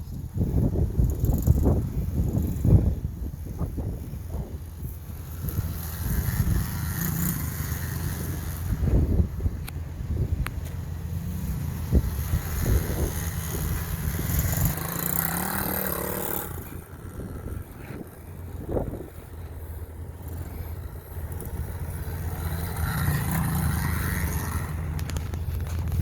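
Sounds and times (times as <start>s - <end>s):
small motorcycle engine running: 0.0s - 26.0s.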